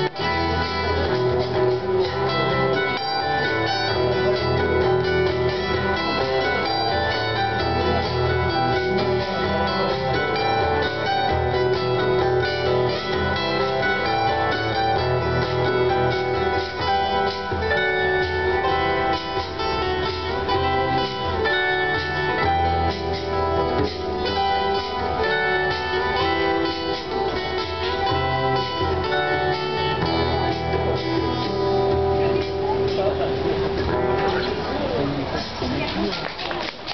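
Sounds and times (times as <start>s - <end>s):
instrumental music: 0.0s - 36.9s.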